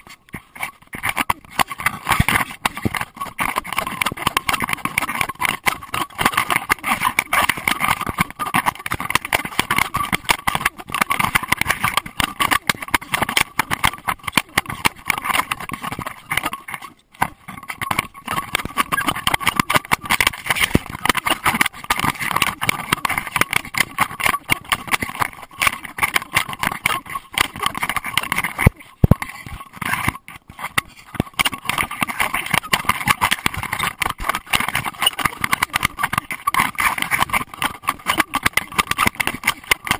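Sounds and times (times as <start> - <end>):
camera housing rattling: 0.0 - 39.9.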